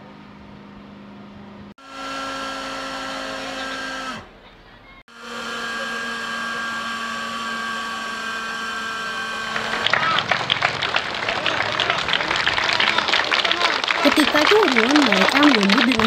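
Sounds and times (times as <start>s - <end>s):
machinery whining hum: 0.0s - 16.0s.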